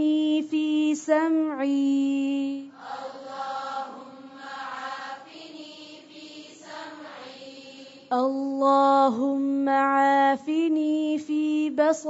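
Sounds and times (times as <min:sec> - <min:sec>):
person reciting: 0:00.0 - 0:12.0
soft vocal chanting: 0:00.0 - 0:12.0.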